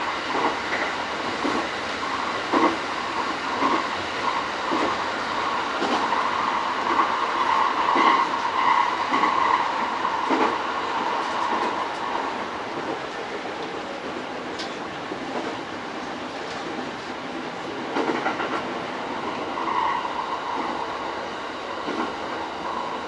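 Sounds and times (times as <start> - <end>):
rail joint clickety-clack: 0.0 - 23.0
train running noise: 0.0 - 23.0.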